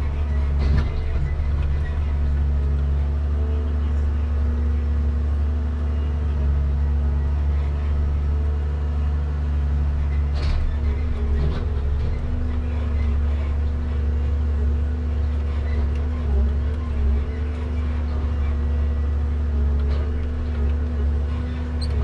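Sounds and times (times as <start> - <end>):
diesel engine drone: 0.0 - 22.0
hydraulic crane loading logs: 0.0 - 22.0.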